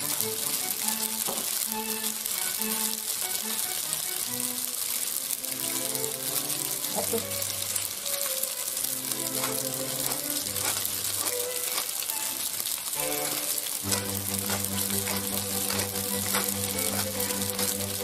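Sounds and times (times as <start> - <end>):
pasta sizzling in oil: 0.0 - 18.0
slow background music: 0.0 - 18.0.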